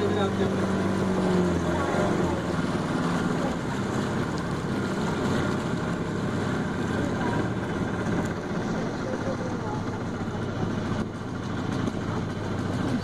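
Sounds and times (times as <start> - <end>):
motorboat engine running: 0.0 - 13.0
water rushing along hull: 0.0 - 13.0.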